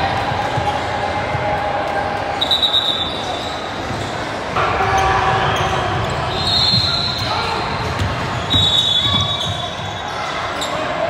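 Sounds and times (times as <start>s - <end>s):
voices echoing in a hall: 0.0s - 11.0s.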